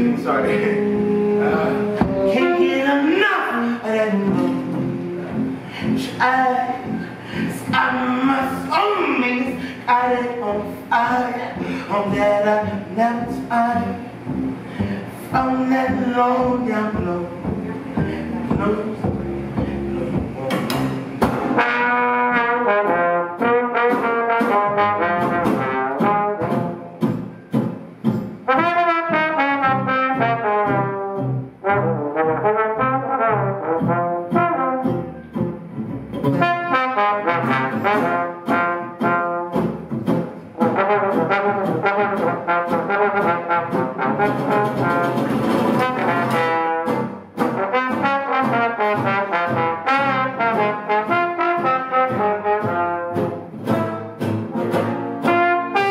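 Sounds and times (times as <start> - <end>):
trombone melody: 0.0 - 14.7, 21.3 - 55.9
archtop guitar: 0.0 - 55.9
plucked upright bass: 0.0 - 55.9.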